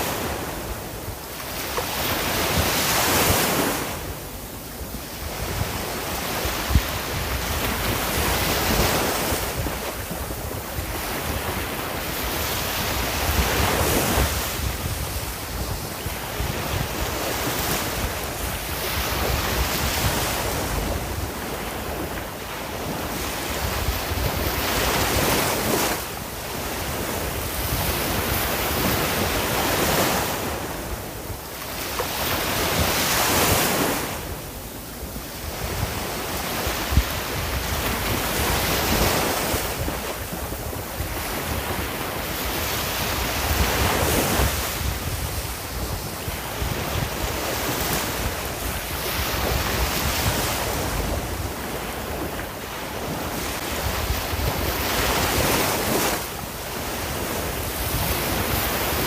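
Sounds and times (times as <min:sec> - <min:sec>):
ocean waves breaking: 0:00.0 - 0:59.0
wind on microphone: 0:00.0 - 0:59.0.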